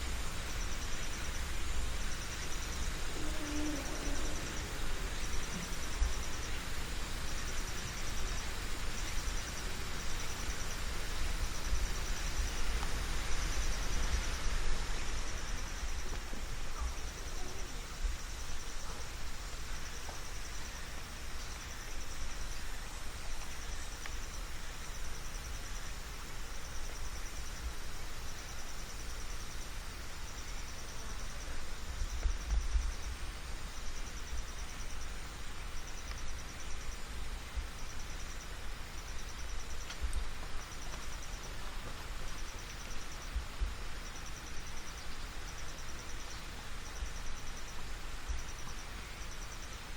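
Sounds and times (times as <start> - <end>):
insect trilling: 0.0 - 49.9.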